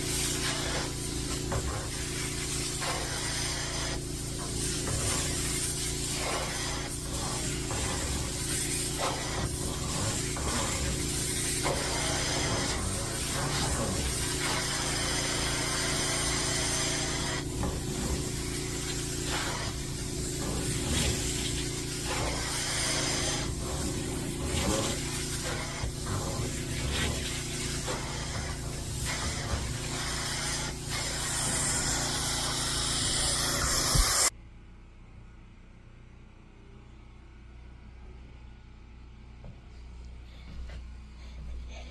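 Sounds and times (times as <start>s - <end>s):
cleaning machine motor hum: 0.0s - 34.3s
spray and suction hiss: 0.0s - 34.3s
tool strokes on fabric: 0.0s - 34.3s.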